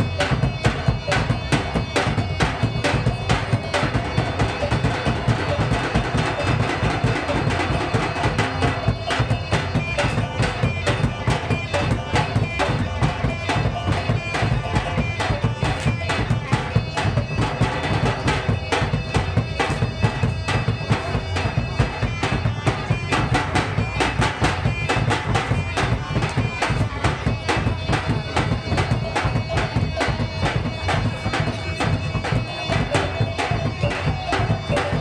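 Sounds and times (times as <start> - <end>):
rapid drumming: 0.0 - 35.0
wind instrument melody: 0.0 - 35.0.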